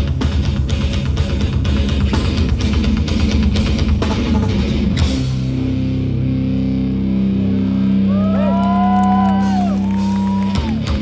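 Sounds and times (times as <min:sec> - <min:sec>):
drums: 0:00.0 - 0:11.0
hardcore band playing: 0:00.0 - 0:11.0.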